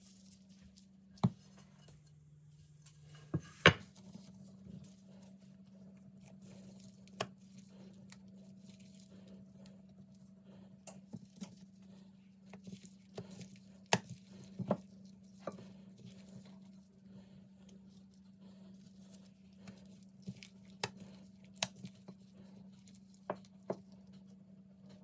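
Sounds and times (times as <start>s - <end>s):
wet dough handling noises: 0.0s - 2.1s, 2.8s - 25.0s
steady low hum: 0.0s - 25.0s.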